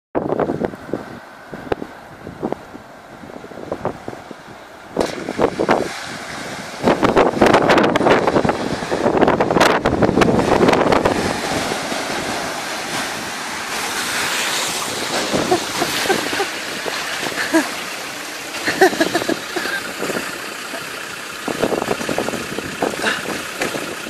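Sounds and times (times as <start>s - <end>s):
wind on microphone: 0.2s - 17.7s, 21.4s - 24.0s
water rushing and splashing: 0.3s - 24.0s.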